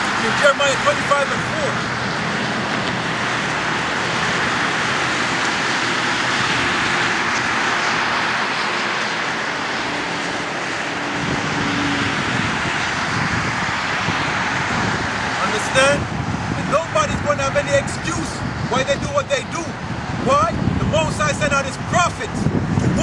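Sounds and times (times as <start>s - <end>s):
faint engine drone: 0.0s - 23.0s
vehicle traffic roar: 0.0s - 23.0s.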